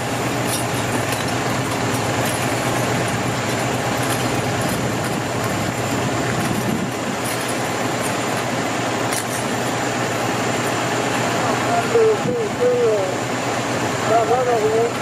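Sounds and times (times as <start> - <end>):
fire truck engine droning: 0.0 - 15.0.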